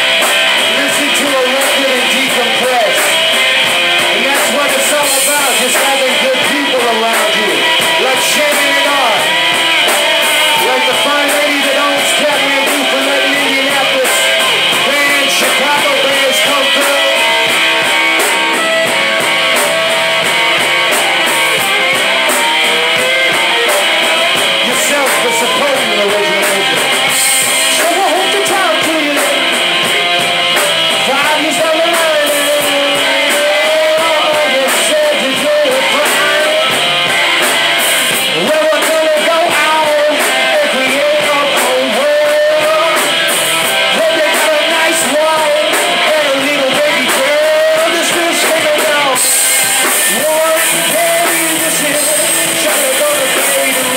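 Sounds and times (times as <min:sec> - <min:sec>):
man singing: 0:00.0 - 0:53.9
rock band playing: 0:00.0 - 0:53.9.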